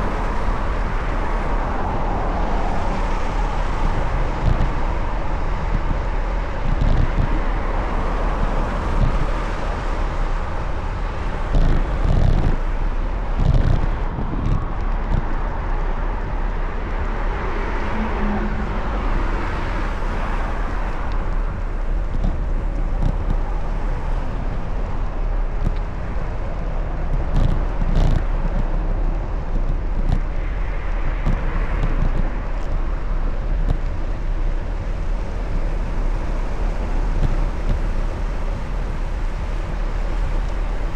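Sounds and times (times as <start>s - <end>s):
low gusts buffeting microphone: 0.0s - 40.9s
road noise: 0.0s - 40.9s.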